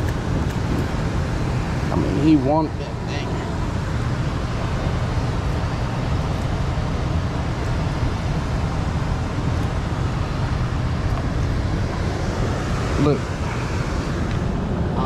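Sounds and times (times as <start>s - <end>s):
loud low rushing noise: 0.0s - 15.0s.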